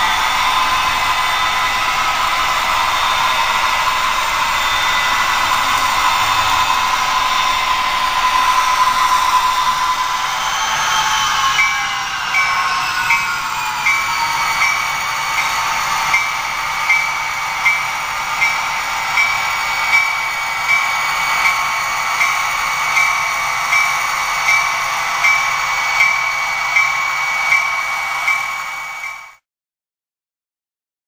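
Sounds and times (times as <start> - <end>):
model locomotive engine sound: 0.0 - 29.4.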